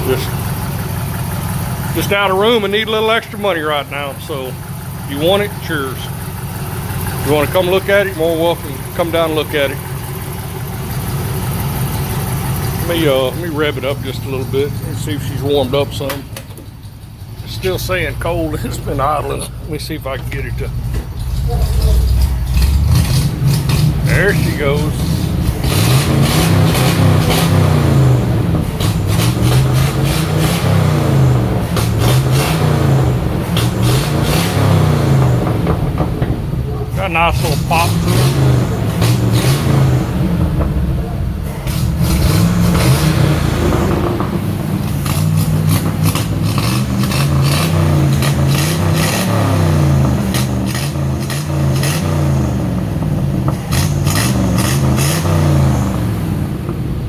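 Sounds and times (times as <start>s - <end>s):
engine crackles: 0.0s - 57.0s
exhaust popping: 0.0s - 57.0s
truck engine revving: 0.0s - 57.0s.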